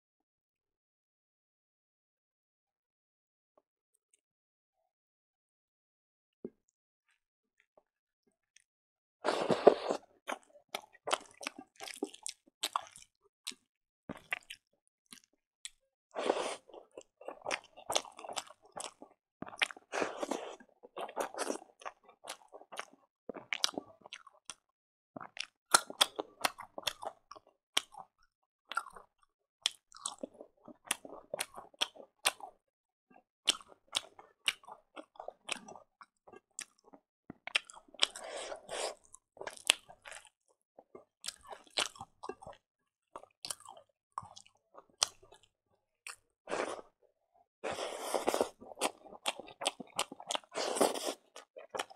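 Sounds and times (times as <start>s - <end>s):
chewing and crunching food: 7.8s - 51.9s.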